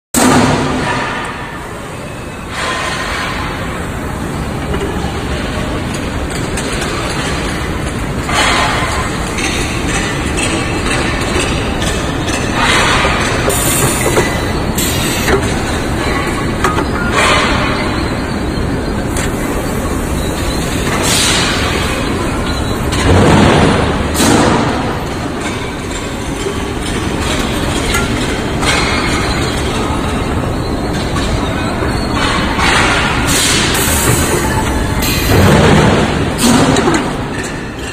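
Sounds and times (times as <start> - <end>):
factory machinery din: 0.2 - 37.9.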